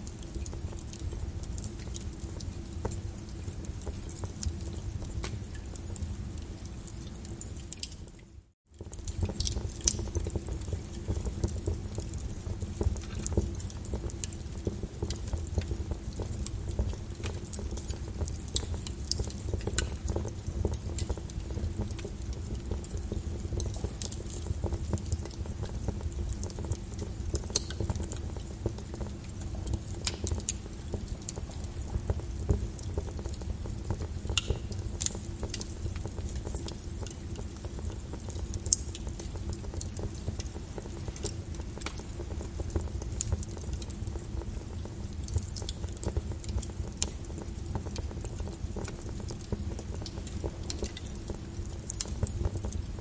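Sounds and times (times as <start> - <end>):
fire crackling in fireplace: 0.0 - 53.0.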